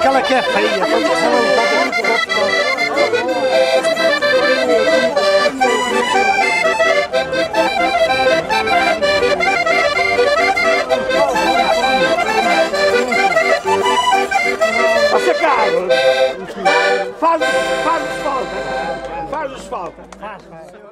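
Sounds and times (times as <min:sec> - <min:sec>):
accordion playing folk tune: 0:00.0 - 0:20.7.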